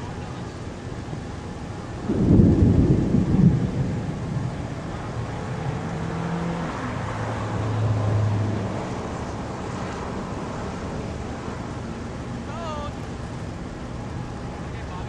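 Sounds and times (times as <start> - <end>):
distant tornado roar: 0.0 - 15.0
wind gusting on microphone: 0.0 - 15.0.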